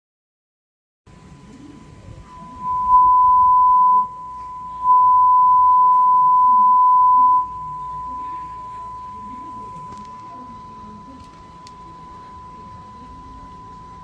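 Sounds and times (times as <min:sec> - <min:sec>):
steady pure test tone: 0:01.1 - 0:14.0.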